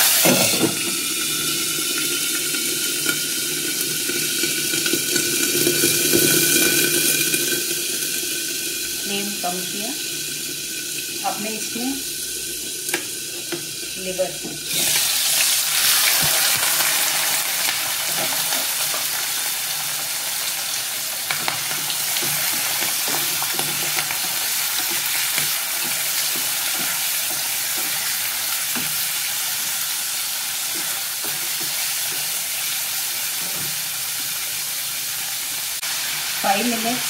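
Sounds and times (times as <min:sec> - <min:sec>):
meat sizzling in hot oil: 0:00.0 - 0:37.0.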